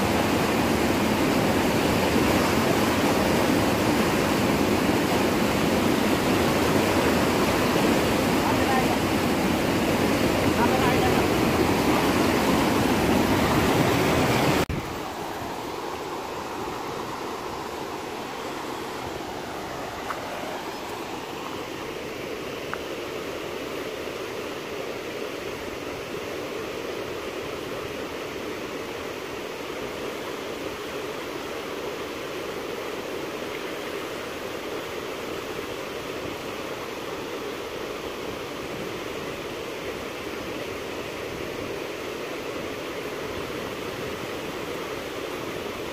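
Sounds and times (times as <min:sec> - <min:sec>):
river rapids rushing: 0:00.0 - 0:45.9.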